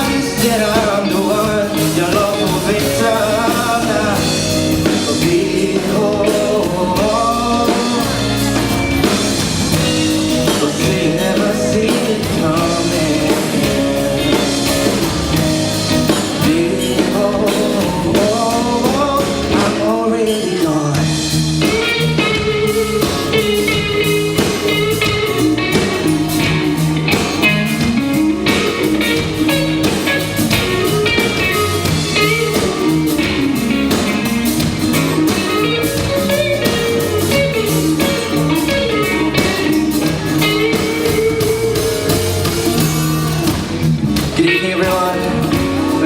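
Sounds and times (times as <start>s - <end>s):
electric guitar gliding melody: 0.0s - 20.0s, 21.0s - 46.0s
rock band playing instrumental: 0.0s - 46.0s.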